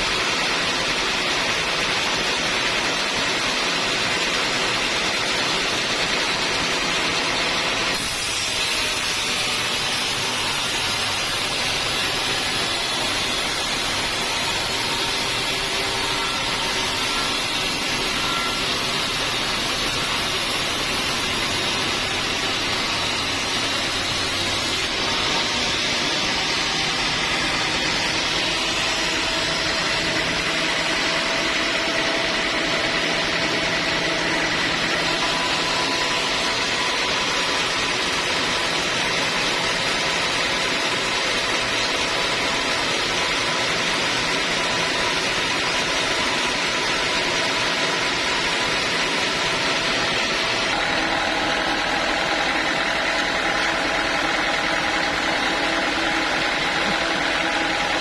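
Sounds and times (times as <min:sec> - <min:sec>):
sawmill saw whirring: 0:00.0 - 0:58.0.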